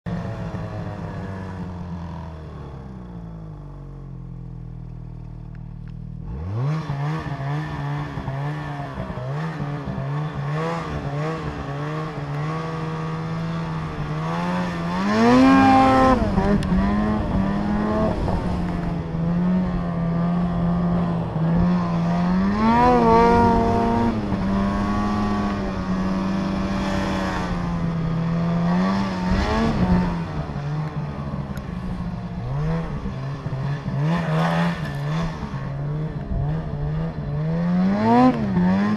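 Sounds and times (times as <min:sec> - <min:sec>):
snowmobile engine revving: 0:06.2 - 0:38.9.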